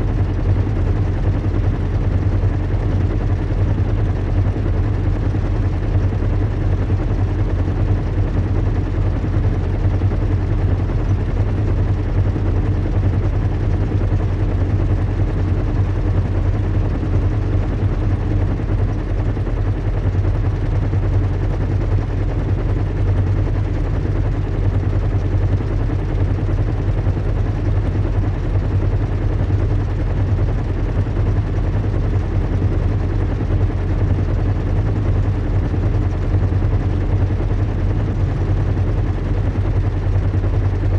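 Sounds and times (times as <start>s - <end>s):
airship rumble and hum: 0.0s - 40.9s.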